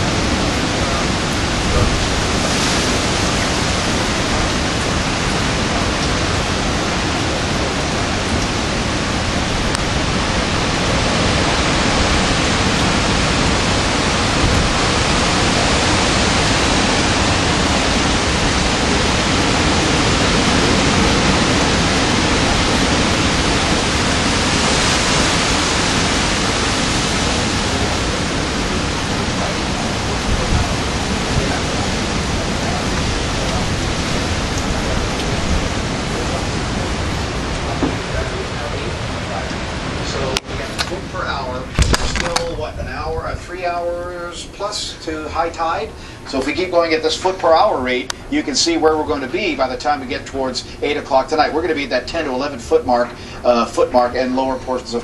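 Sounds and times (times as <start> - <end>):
storm wind and rain: 0.0 - 55.0.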